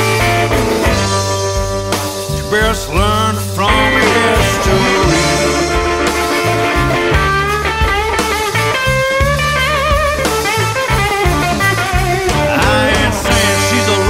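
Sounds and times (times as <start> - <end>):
lead guitar solo: 0.0 - 2.6, 3.6 - 14.0
bass line: 0.0 - 14.0
drums: 0.0 - 14.0.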